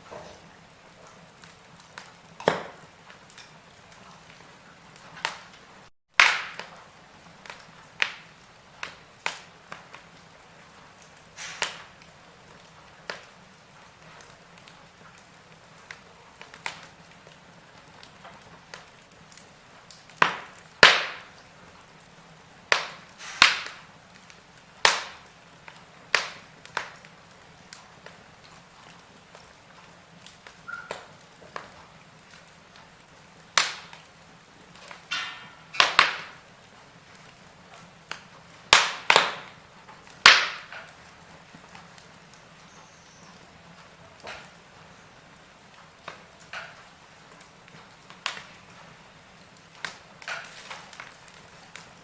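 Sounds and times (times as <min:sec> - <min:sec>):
faint steady hiss: 0:00.0 - 0:52.0
wood fire crackling and popping: 0:00.0 - 0:52.0.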